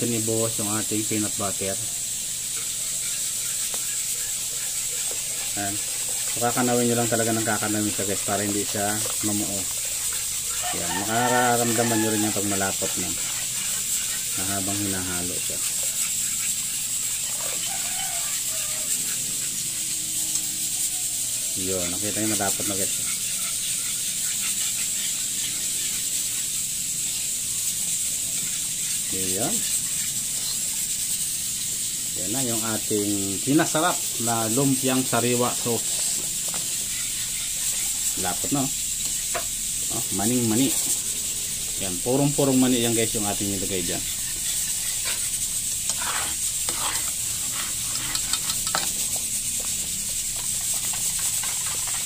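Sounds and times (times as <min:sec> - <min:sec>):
steady hiss: 0:00.0 - 0:52.0
spoon stirring thick sauce: 0:00.1 - 0:19.9, 0:20.6 - 0:31.0, 0:32.4 - 0:41.0, 0:41.7 - 0:52.0.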